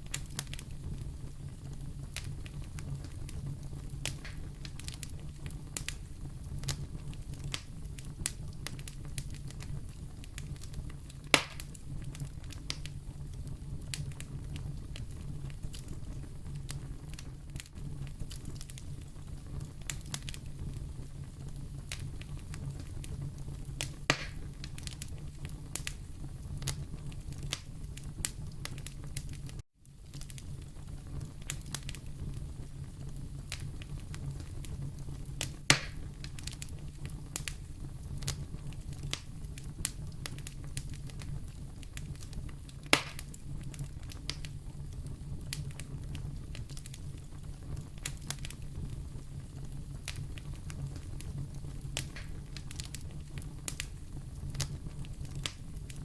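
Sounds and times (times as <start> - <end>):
fire crackling: 0.0 - 56.0
loud fire pops: 0.0 - 56.0.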